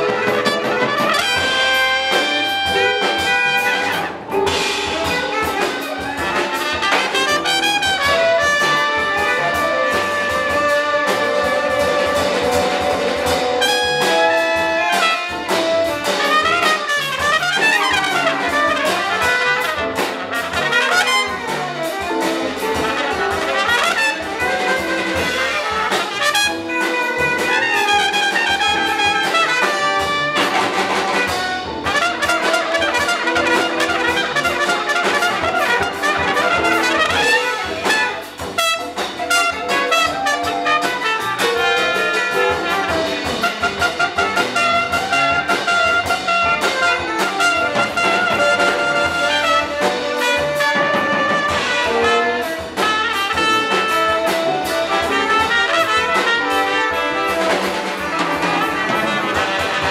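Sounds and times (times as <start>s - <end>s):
drums: 0.0s - 59.9s
tenor saxophone: 0.0s - 59.9s
trumpet: 0.0s - 59.9s
upright bass: 0.0s - 59.9s.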